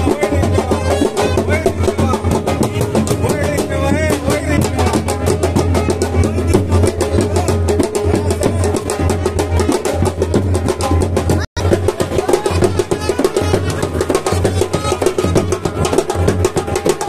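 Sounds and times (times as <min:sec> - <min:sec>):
drum beaten with sticks: 0:00.0 - 0:17.0.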